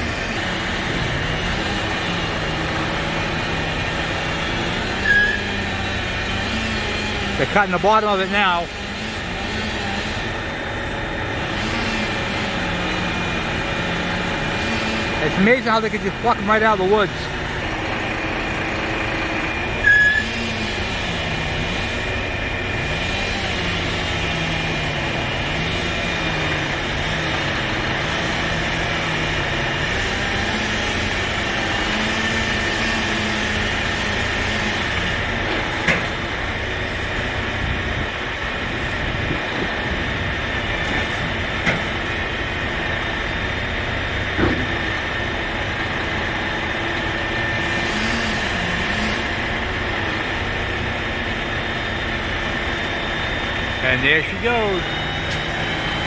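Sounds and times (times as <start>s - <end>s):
crane engine running: 0.0s - 56.0s.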